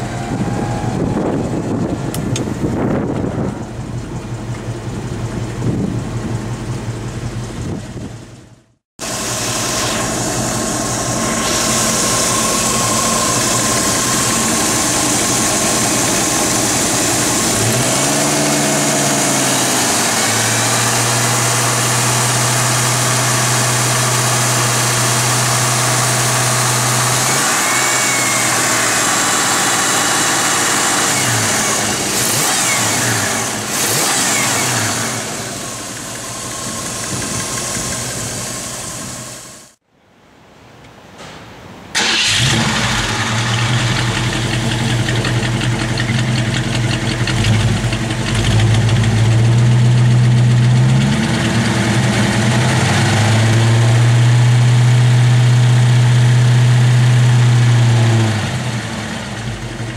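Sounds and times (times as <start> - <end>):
car engine idling and revving: 0.0 - 39.8, 42.0 - 59.9.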